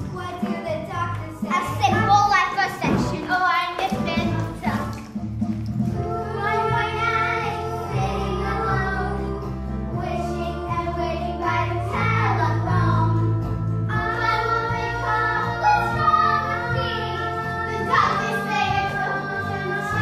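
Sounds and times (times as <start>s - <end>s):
child singing: 0.0s - 4.8s, 6.1s - 13.3s, 13.9s - 20.0s
instrumental backing music: 0.0s - 20.0s.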